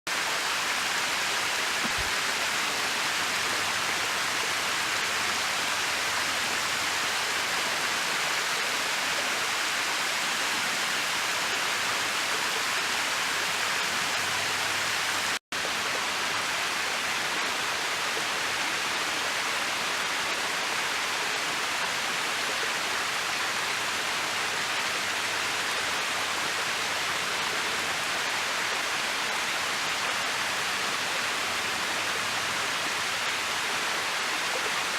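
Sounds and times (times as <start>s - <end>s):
waterfall rushing over rock: 0.1s - 34.9s.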